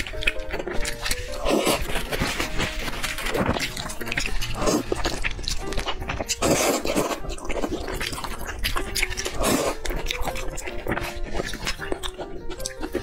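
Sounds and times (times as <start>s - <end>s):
noodles slurped: 0.0s - 13.0s.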